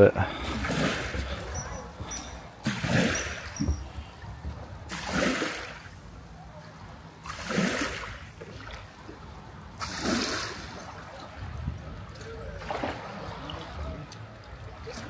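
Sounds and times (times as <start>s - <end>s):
water lapping and splashing: 0.0s - 15.0s.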